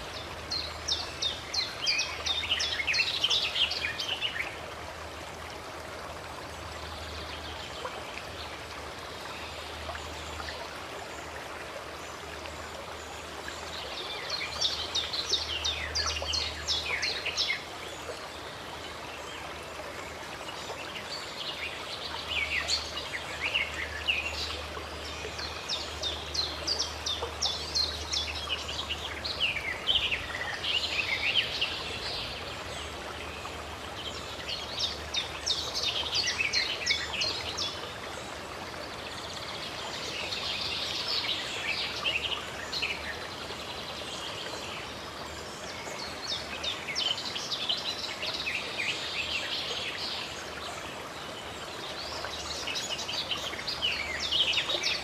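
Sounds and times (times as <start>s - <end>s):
running water: 0.0s - 55.0s
songbirds chirping: 0.0s - 55.0s.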